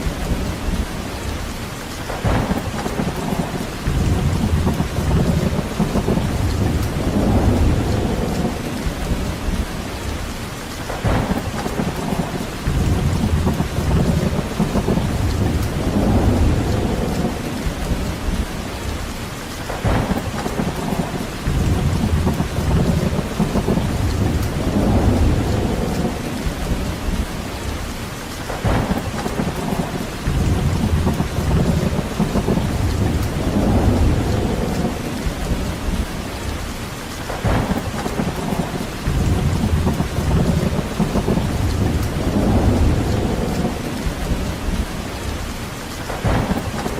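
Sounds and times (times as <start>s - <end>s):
rain falling steadily: 0.0s - 46.9s
deep rumbling surges: 2.1s - 10.2s, 10.9s - 19.1s, 19.7s - 27.9s, 28.5s - 36.7s, 37.3s - 45.5s.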